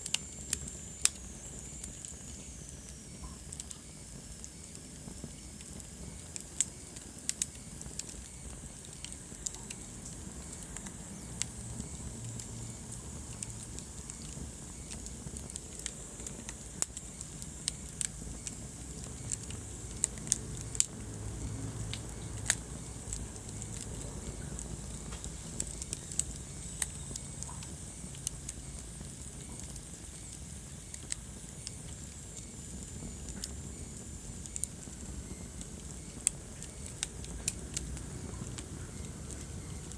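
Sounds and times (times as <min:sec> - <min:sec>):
low rumble of flames: 0:00.0 - 0:39.9
sharp pops of fire: 0:00.0 - 0:39.9
wood fire crackling: 0:00.0 - 0:39.9.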